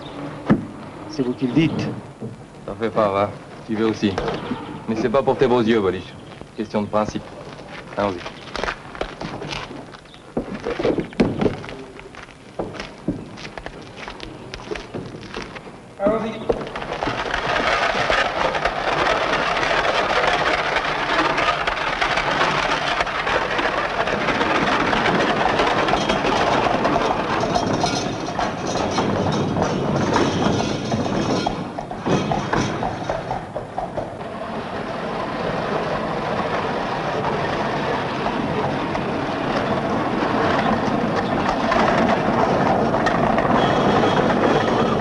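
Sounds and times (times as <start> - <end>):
carriage wheels on cobblestones: 0.0 - 45.0
hooves clattering: 0.0 - 45.0.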